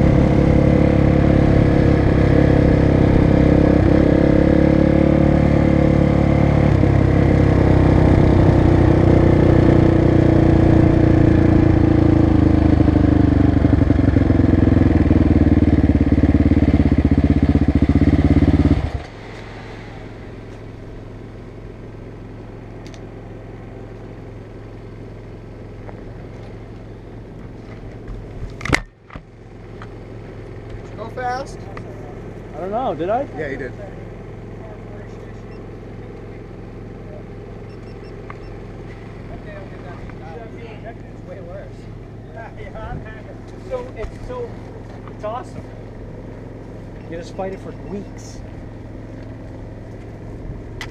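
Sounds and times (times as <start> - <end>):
motorbike engine running hard: 0.0 - 50.9.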